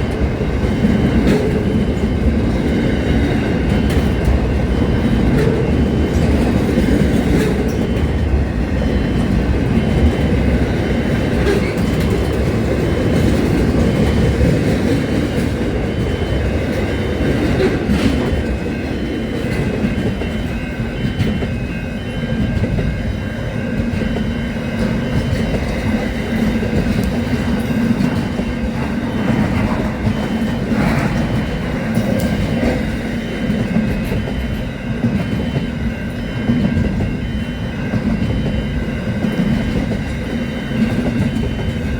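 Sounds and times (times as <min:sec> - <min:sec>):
train rumbling on track: 0:00.0 - 0:41.9.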